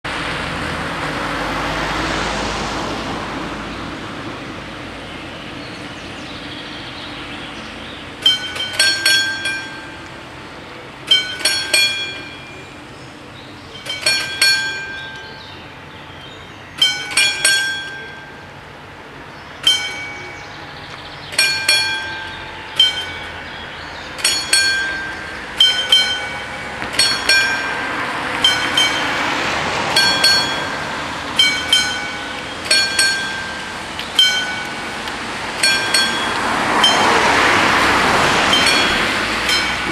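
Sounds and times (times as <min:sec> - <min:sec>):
approaching train rumble: 0:00.0 - 0:39.9
level crossing bells ringing: 0:05.1 - 0:39.9.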